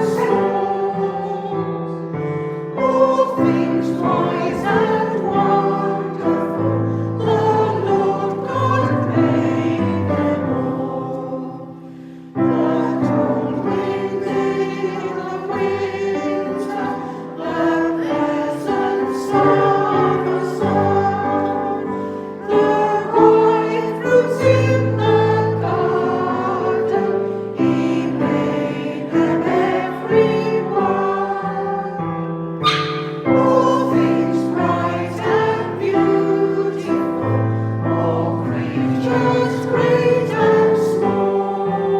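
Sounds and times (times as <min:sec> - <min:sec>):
voices singing a hymn: 0:00.0 - 0:41.9.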